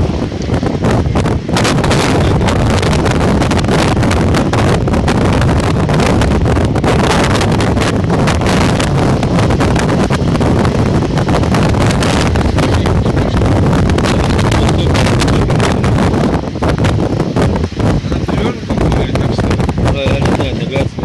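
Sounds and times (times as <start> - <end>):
motorboat running on water: 0.0 - 21.0
wind buffeting microphone: 0.0 - 21.0.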